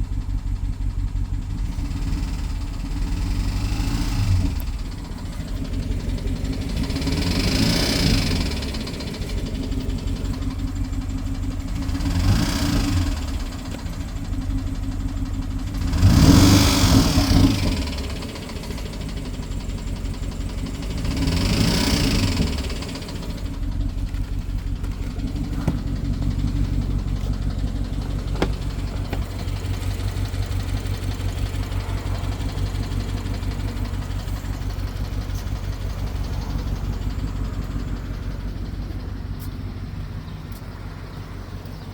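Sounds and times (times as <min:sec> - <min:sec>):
car engine idling: 0:00.0 - 0:41.9
fast engine ticking: 0:00.0 - 0:41.9
engine revving: 0:01.4 - 0:41.9.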